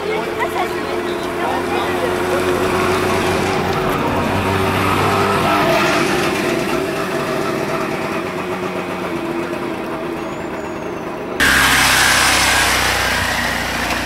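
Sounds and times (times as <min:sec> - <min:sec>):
small car engine passing by: 0:00.0 - 0:14.0.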